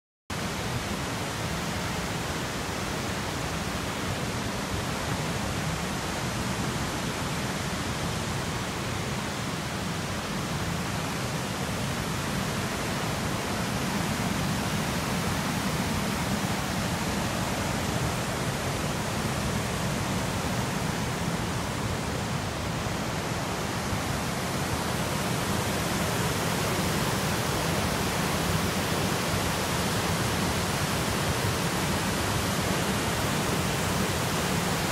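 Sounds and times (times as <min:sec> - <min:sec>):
river rushing over rapids: 0:00.3 - 0:34.9.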